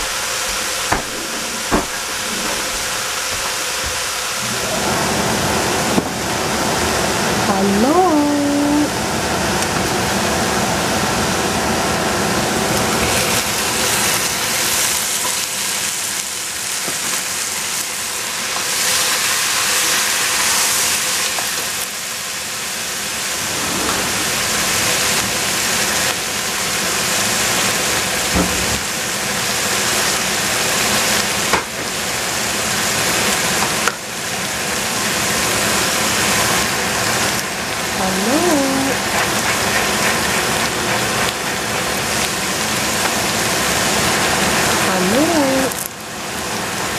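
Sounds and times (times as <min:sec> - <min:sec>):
vegetables sizzling in pot: 0:00.0 - 0:46.9.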